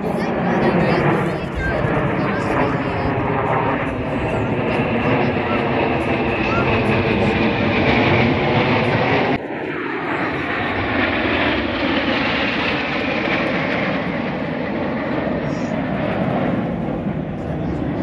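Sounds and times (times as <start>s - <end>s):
jet engines flying over: 0.0s - 18.0s.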